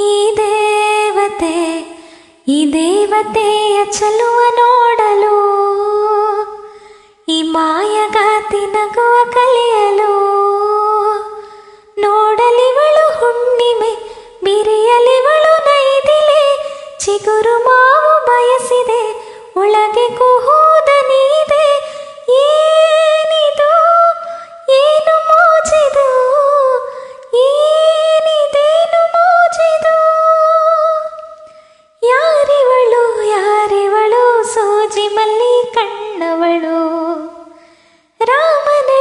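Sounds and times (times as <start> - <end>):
woman singing unaccompanied: 0.0 - 6.6, 7.3 - 11.4, 12.0 - 37.6, 38.2 - 39.0.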